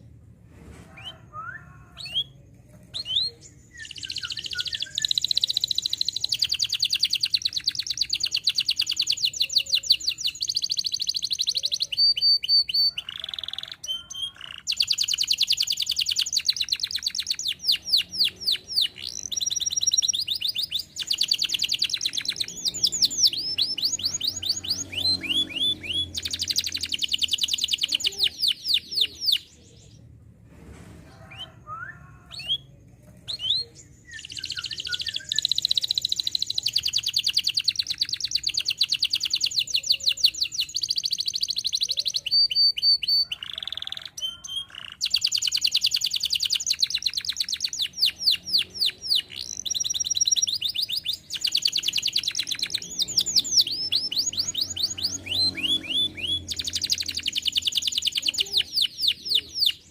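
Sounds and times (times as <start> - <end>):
canary singing trills: 1.0 - 30.1, 31.3 - 59.9.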